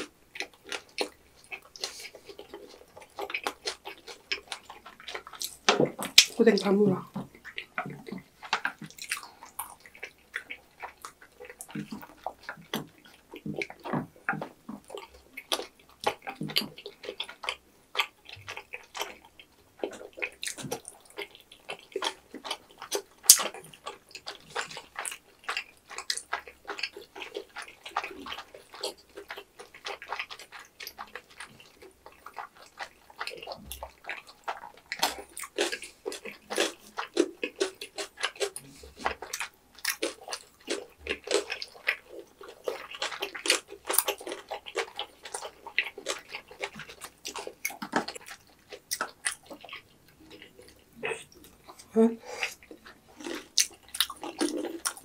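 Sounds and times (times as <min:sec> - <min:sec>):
wet sticky chewing: 0:00.0 - 0:55.0.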